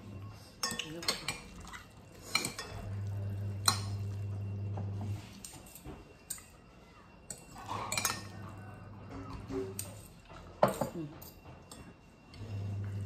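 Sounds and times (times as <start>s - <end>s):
cutlery clinking on glass plates: 0.6s - 6.6s, 7.2s - 12.4s.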